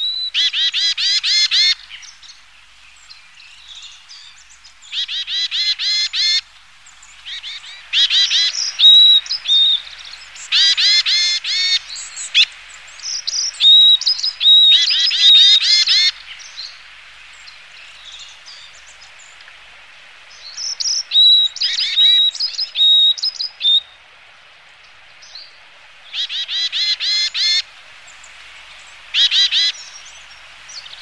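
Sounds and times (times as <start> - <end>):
tits calling: 0.0 - 19.5, 20.3 - 24.0, 24.7 - 31.0.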